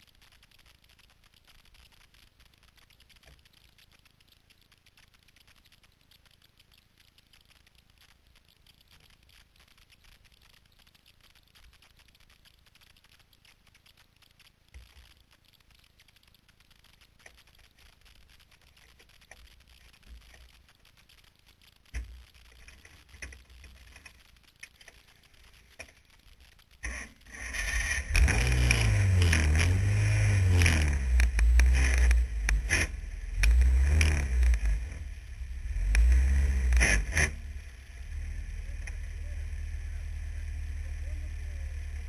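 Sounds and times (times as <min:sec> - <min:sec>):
microphone hiss and crackling: 0:00.0 - 0:42.0.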